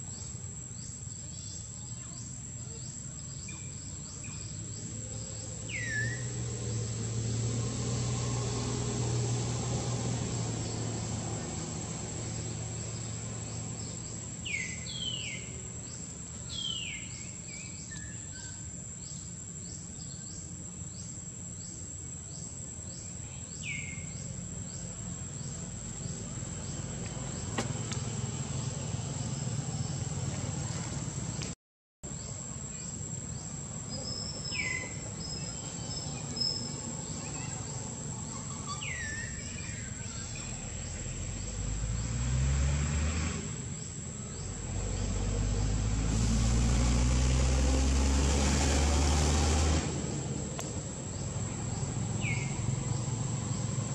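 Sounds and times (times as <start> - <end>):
high insect drone: 0.0 - 31.4, 32.1 - 53.9
vehicle engine rumble: 0.0 - 53.9.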